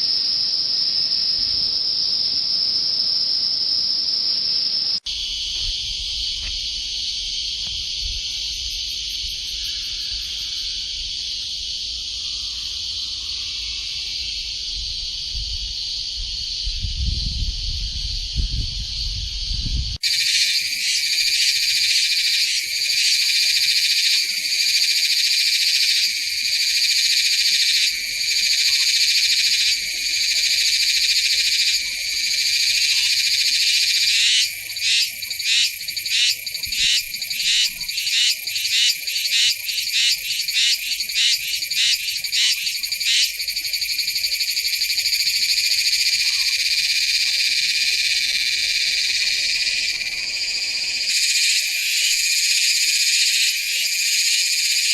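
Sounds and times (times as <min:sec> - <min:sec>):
cicada buzzing: 0:00.0 - 0:18.6, 0:20.0 - 0:54.9.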